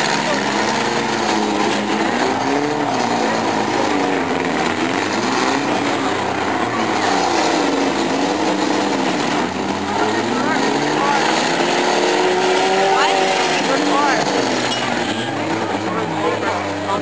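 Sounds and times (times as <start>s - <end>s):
car engines revving: 0.0s - 17.0s
steady background noise: 0.0s - 17.0s.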